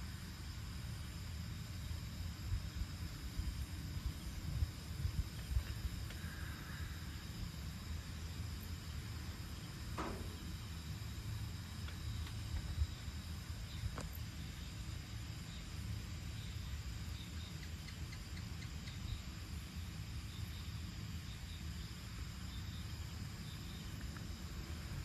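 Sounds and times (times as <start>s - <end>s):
crickets chirping: 0.0s - 25.0s
low steady rumble: 0.0s - 25.0s.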